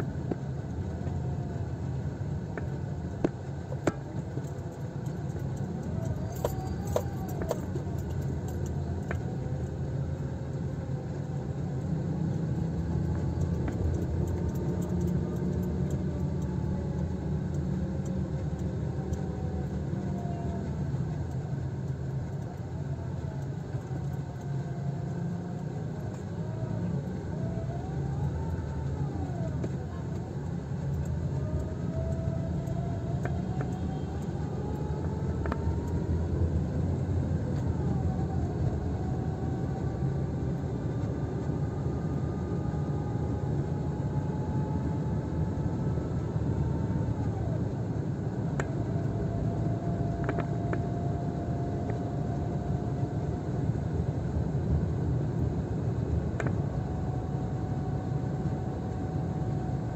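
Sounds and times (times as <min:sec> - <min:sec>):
engine and tyre rumble: 0:00.0 - 0:59.9.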